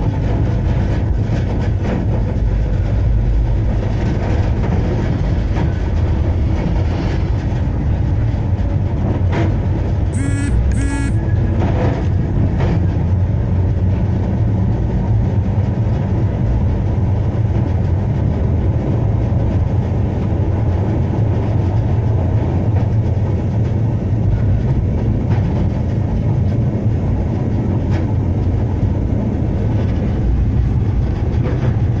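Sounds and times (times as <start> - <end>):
tram rumbling on rails: 0.0 - 32.0.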